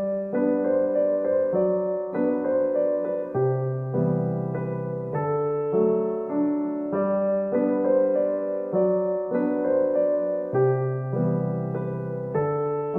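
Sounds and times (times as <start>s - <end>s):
slow piano music: 0.0s - 12.9s.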